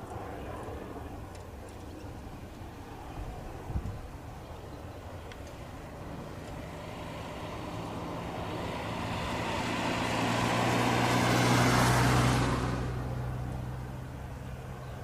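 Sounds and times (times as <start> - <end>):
jet engines passing overhead: 0.0 - 15.0.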